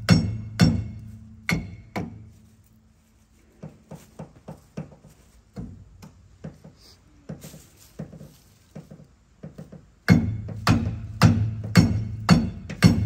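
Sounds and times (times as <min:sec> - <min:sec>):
light evenly spaced knocks: 0:00.0 - 0:02.7, 0:03.4 - 0:13.0.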